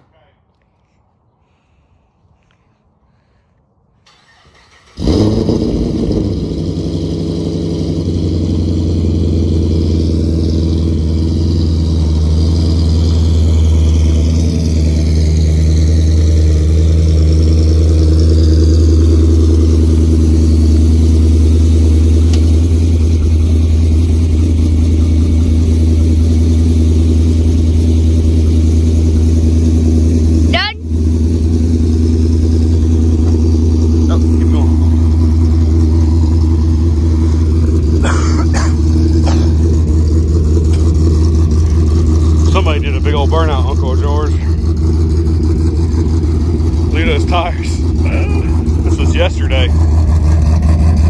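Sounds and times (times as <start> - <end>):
car engine idling with exhaust rumble: 0.0 - 51.0
car engine cranking and catching: 4.0 - 51.0.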